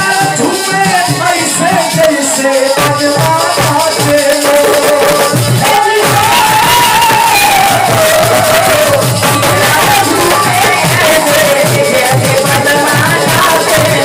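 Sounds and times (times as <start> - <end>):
steady drum beat: 0.0 - 14.0.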